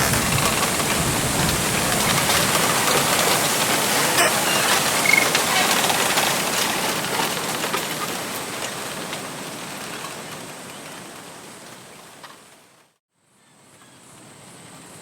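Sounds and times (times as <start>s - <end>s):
wind rustling bamboo: 0.0s - 15.0s.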